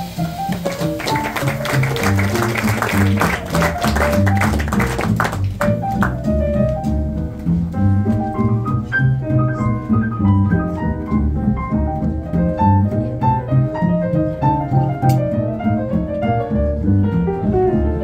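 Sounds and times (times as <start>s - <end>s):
double bass: 0.0s - 18.0s
jazz piano runs: 0.0s - 18.0s
light drums: 0.0s - 18.0s.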